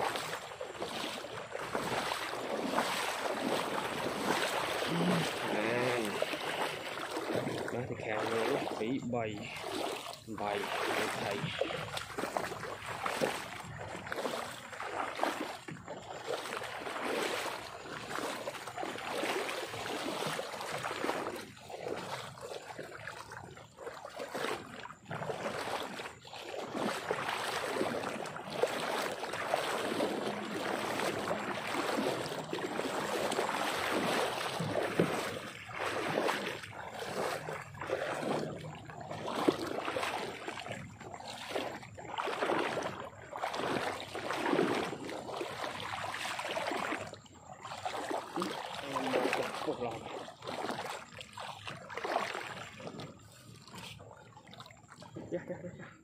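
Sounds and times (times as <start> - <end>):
rustling through wet grass: 0.0 - 23.3, 24.0 - 54.6
trickling water: 0.0 - 56.0.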